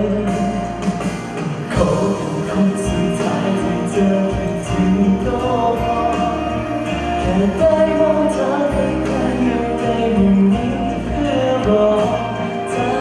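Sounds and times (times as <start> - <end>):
man singing into microphone: 0.0 - 0.8, 1.7 - 13.0
instrumental backing music: 0.0 - 13.0.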